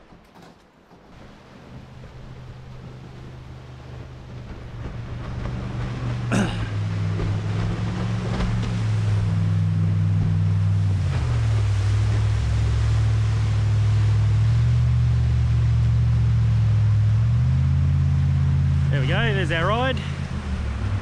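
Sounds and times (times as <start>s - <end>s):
jet boat engine running hard: 0.9s - 21.0s.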